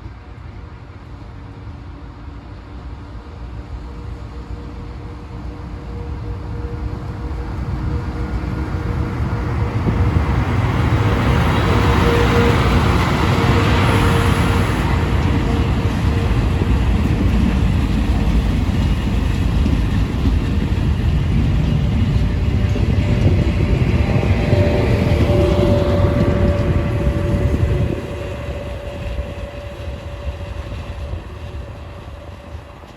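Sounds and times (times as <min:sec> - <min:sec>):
electric train passing: 0:03.1 - 0:32.9.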